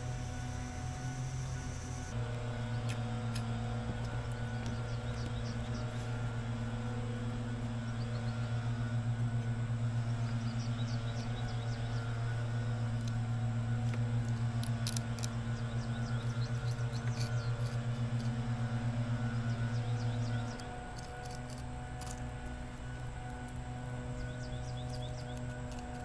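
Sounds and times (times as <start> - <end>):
motor humming with pulsing beat: 0.0 - 26.0.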